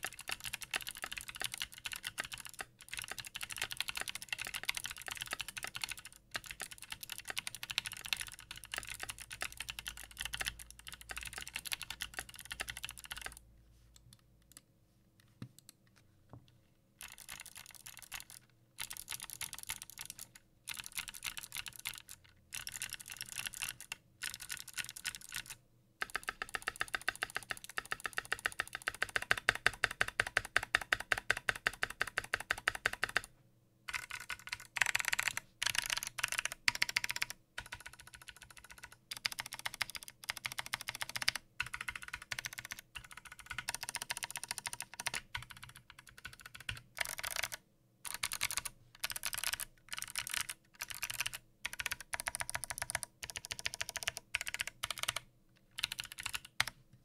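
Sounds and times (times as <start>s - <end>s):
clicky keyboard typing: 0.0s - 13.4s, 15.2s - 16.0s, 17.0s - 33.3s, 33.9s - 56.8s.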